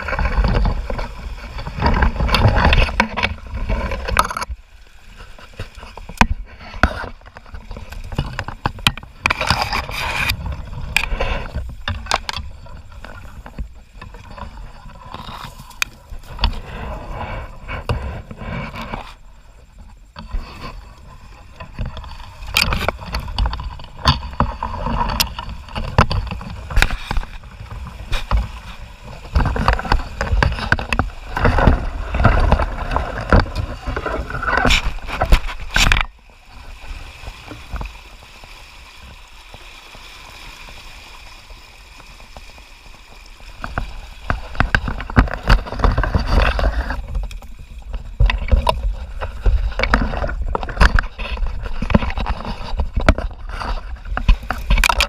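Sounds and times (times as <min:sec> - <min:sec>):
reeds scraping against kayak: 0:00.0 - 0:55.0
river water flowing: 0:00.0 - 0:55.0.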